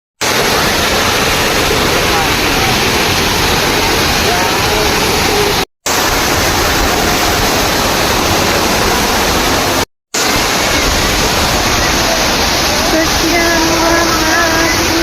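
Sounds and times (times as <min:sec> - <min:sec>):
waterfall roaring: 0:00.2 - 0:15.0.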